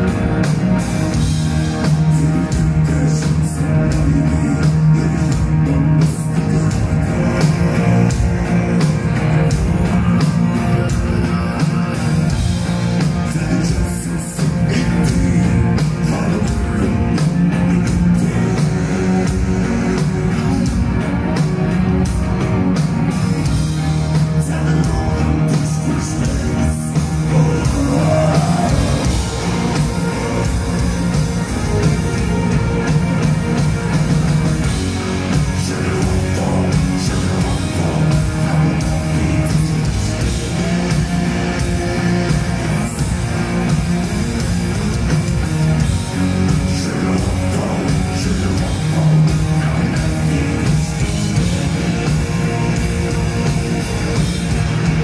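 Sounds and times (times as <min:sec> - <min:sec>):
person singing lead vocal: 0:00.0 - 0:44.0, 0:45.8 - 0:55.0
drum kit: 0:00.0 - 0:55.0
electric guitar: 0:00.0 - 0:55.0
live metal band playing: 0:00.0 - 0:55.0.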